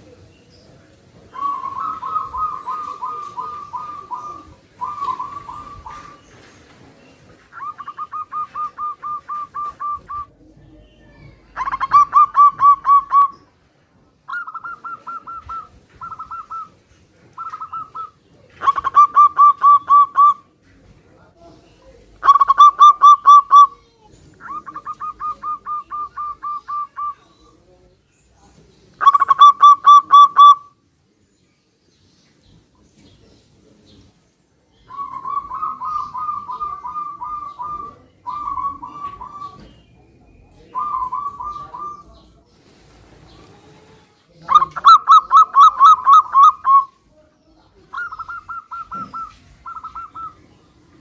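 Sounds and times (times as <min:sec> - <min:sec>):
doves cooing: 0:00.0 - 0:13.5, 0:14.3 - 0:20.5, 0:22.1 - 0:27.6, 0:29.0 - 0:30.8, 0:34.8 - 0:47.0, 0:47.8 - 0:51.0.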